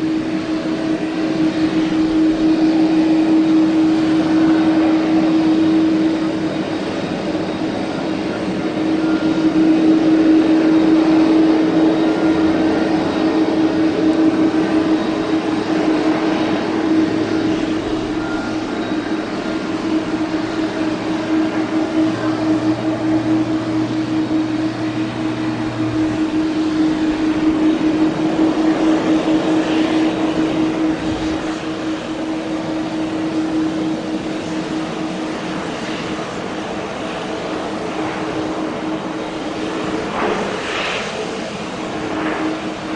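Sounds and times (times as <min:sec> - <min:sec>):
jet engines droning: 0:00.0 - 0:42.9.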